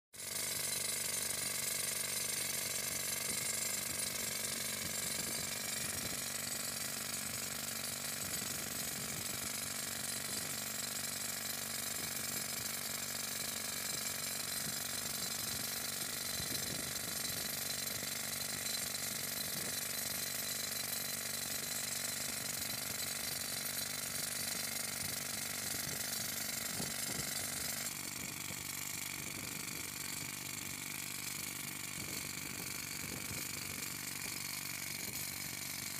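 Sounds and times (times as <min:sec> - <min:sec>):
rock drill hammering: 0:00.2 - 0:35.9.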